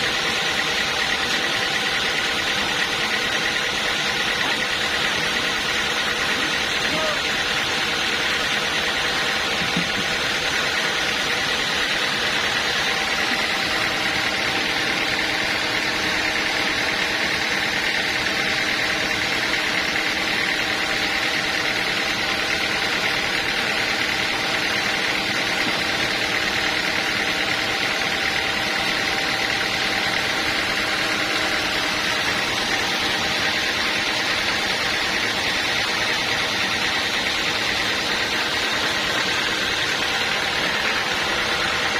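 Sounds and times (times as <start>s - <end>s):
sawmill machinery running: 0.0s - 41.9s.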